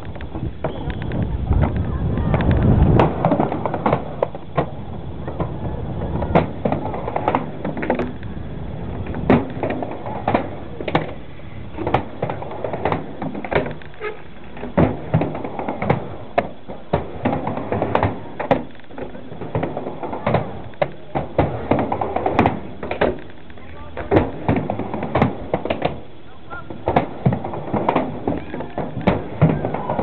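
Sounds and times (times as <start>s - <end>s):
skateboard clacking on ground: 0.0s - 8.3s, 9.0s - 30.0s
skateboard wheels rumbling: 0.0s - 30.0s.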